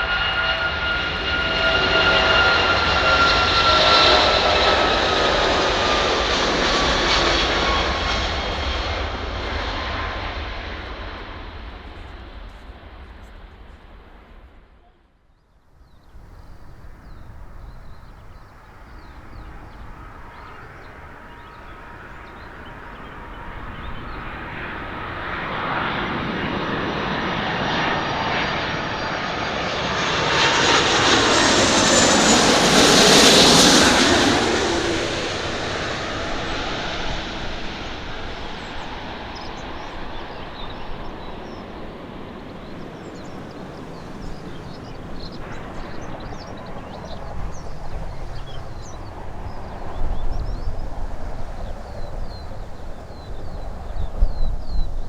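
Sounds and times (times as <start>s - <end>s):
jet airliner engine roar: 0.0s - 15.0s, 16.0s - 55.0s
faint engine whine: 0.0s - 15.1s, 16.2s - 55.0s.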